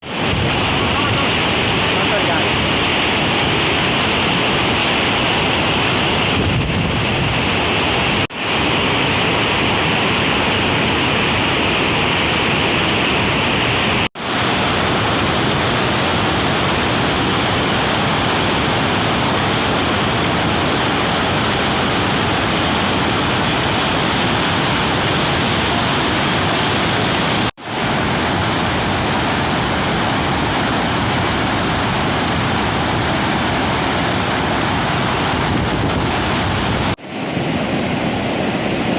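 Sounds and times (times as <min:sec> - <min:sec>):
water rushing through spillway: 0:00.0 - 0:38.9.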